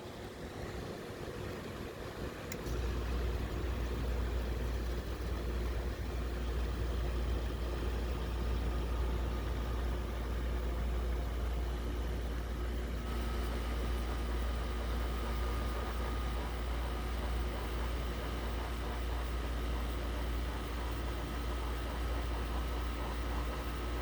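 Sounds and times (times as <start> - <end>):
air conditioner blower rushing: 0.0 - 24.0.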